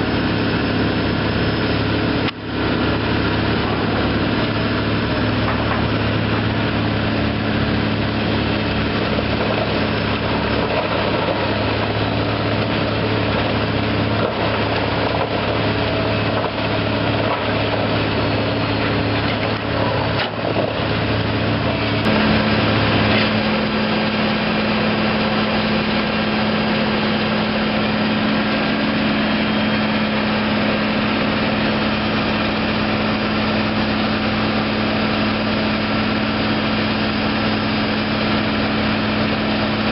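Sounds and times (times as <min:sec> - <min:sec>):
diesel grinder engine running: 0:00.0 - 0:39.9.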